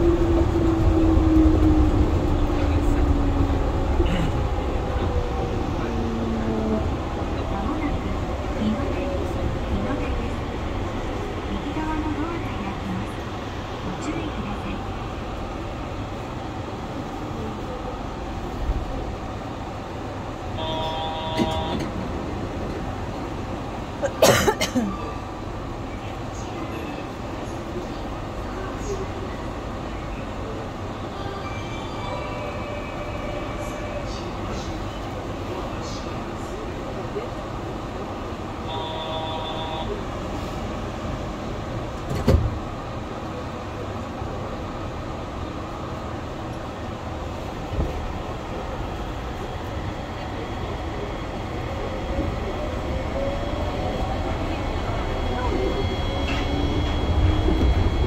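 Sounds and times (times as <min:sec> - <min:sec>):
train running noise: 0:00.0 - 0:58.0.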